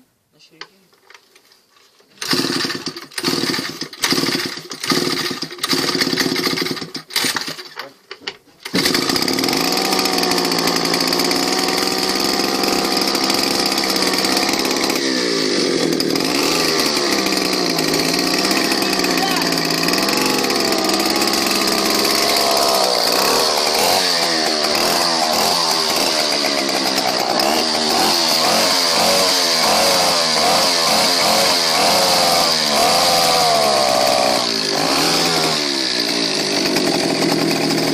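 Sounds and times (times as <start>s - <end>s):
moped engine pull-started and running: 2.2s - 37.9s.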